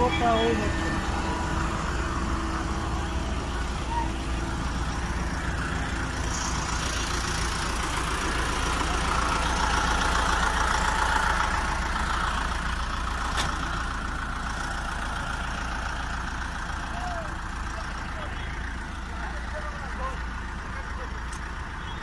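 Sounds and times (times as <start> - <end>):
concrete pump engine running: 0.0 - 22.0.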